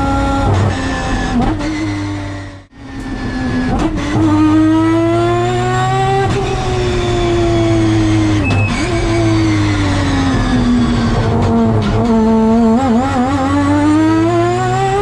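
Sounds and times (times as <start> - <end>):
rotary engine revving: 0.0 - 15.0.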